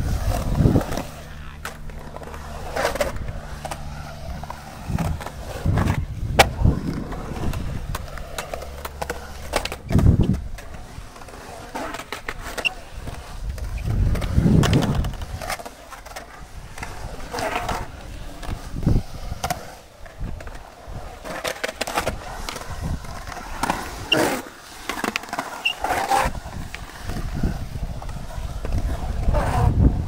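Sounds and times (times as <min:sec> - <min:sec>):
skateboard wheels rolling on concrete: 0:00.0 - 0:30.0
skateboard clacking on concrete: 0:00.2 - 0:30.0.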